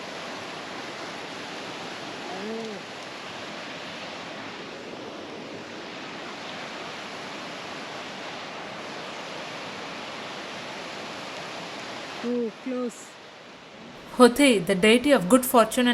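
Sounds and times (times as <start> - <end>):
waterfall and river rushing: 0.0 - 15.9.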